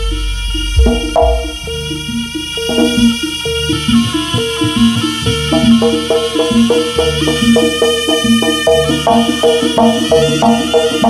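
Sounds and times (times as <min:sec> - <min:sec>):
drum beating: 0:00.0 - 0:11.0
tuned bronze percussion: 0:00.0 - 0:11.0.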